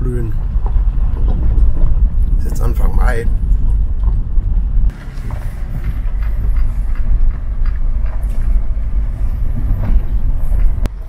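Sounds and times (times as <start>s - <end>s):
stones crunching under tyres: 0.0s - 11.0s
vehicle rumble from inside cabin: 0.0s - 11.0s.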